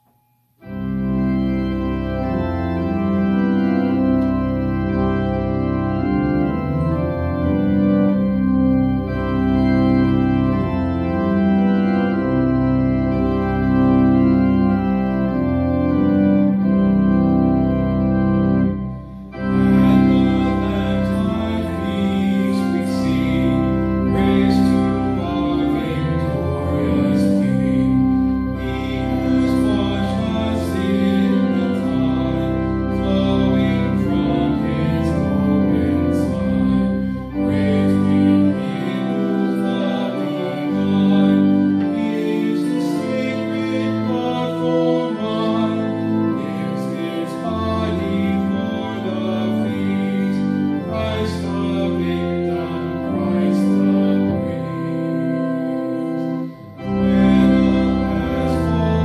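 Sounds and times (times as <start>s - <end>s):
church organ playing chords: 0.0s - 59.0s.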